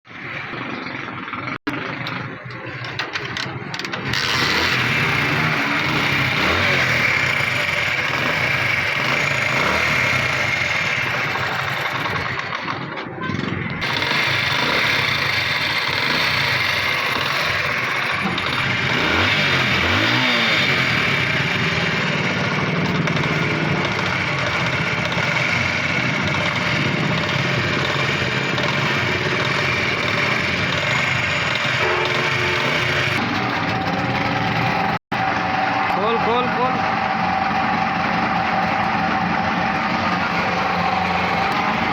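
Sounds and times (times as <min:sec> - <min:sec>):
small motorcycle engine running: 0:00.1 - 0:41.9.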